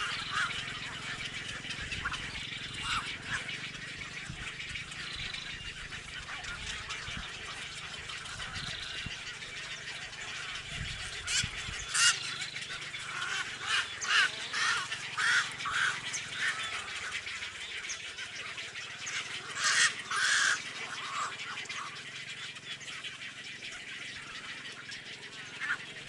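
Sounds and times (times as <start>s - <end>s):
birds chattering: 0.0s - 26.0s
loud repeated bird calls: 0.0s - 26.0s.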